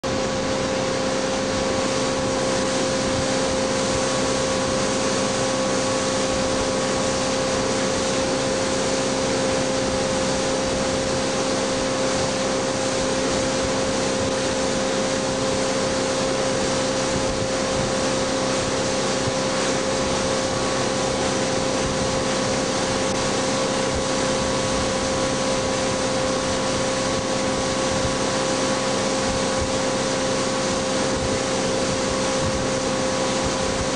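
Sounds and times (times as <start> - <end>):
boat engine running: 0.0 - 33.9
wind and water rushing: 0.0 - 33.9.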